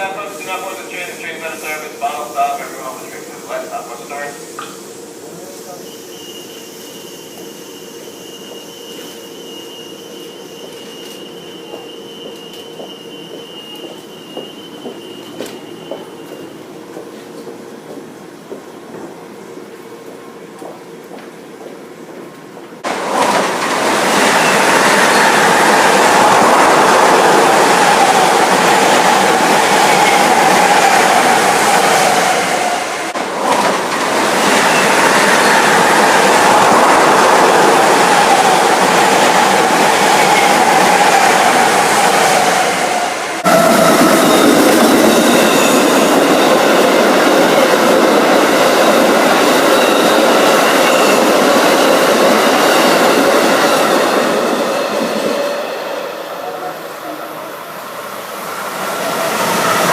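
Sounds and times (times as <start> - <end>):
train whine and hum: 0.0 - 59.9.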